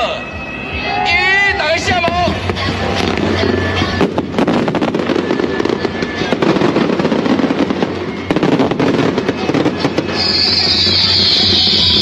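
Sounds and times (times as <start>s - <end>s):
music playing: 0.0s - 12.0s
fireworks pops and bangs: 2.0s - 12.0s.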